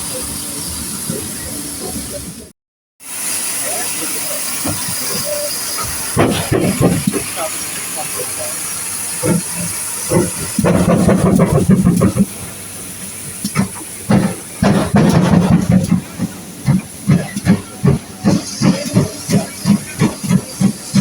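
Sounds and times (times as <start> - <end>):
locomotive exhaust chuffs: 0.0 - 21.0
steam locomotive hissing: 0.0 - 21.0.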